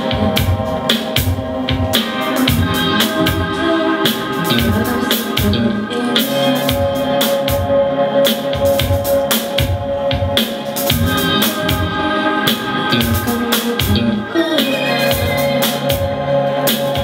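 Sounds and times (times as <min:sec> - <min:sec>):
drum kit steady beat: 0:00.0 - 0:17.0
organ chords: 0:00.0 - 0:17.0.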